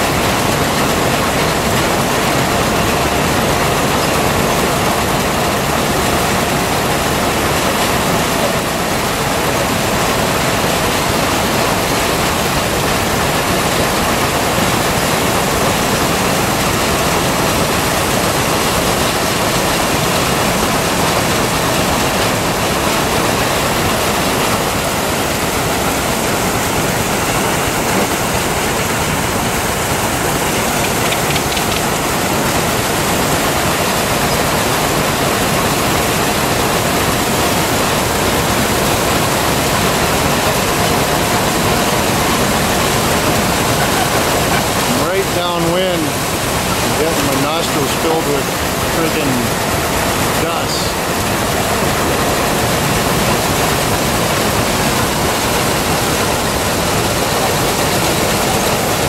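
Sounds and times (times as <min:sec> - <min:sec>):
threshing machine running: 0:00.0 - 0:59.0.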